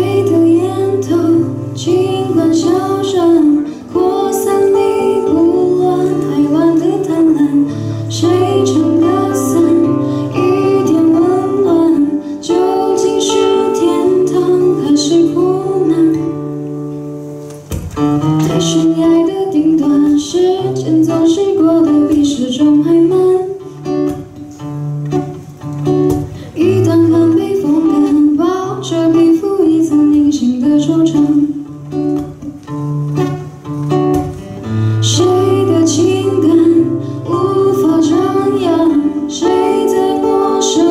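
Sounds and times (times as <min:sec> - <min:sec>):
woman singing: 0:00.0 - 0:16.7, 0:18.5 - 0:24.2, 0:26.4 - 0:31.7, 0:34.8 - 0:40.9
fingerpicked acoustic guitar: 0:00.0 - 0:40.9.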